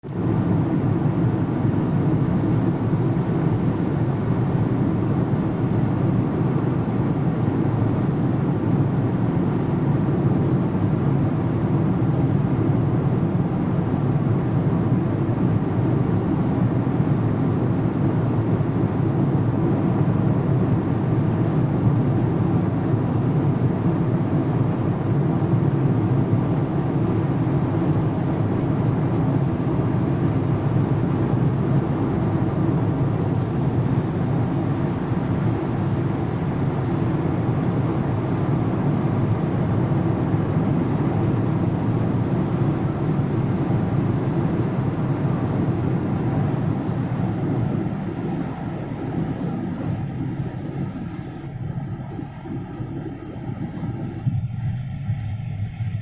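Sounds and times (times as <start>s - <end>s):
vehicle road noise rumble: 0.0s - 56.0s.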